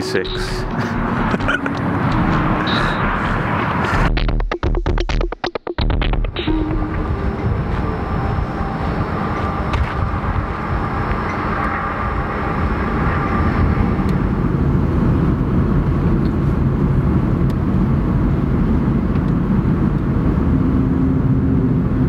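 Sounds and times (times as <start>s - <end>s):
car interior engine and tyre rumble: 0.0s - 4.3s, 6.0s - 22.0s.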